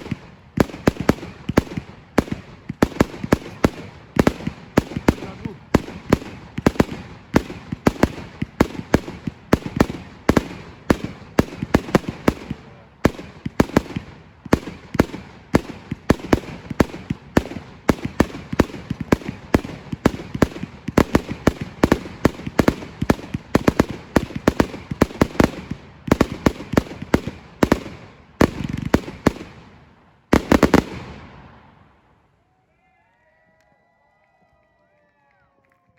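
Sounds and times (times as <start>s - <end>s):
fireworks banging with echo: 0.0s - 32.0s.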